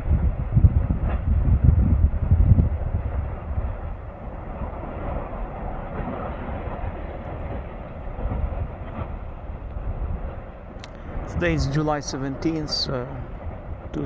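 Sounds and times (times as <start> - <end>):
volcanic vent roaring: 0.0 - 14.0.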